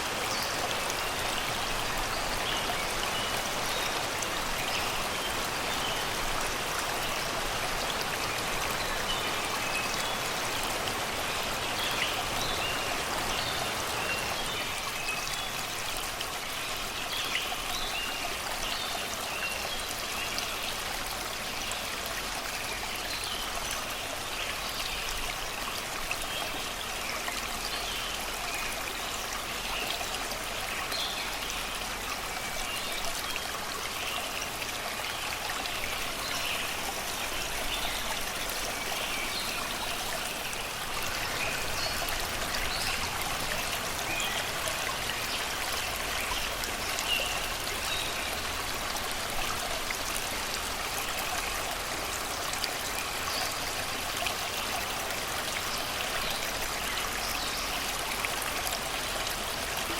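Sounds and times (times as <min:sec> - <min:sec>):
river babbling over rocks: 0:00.0 - 0:59.9.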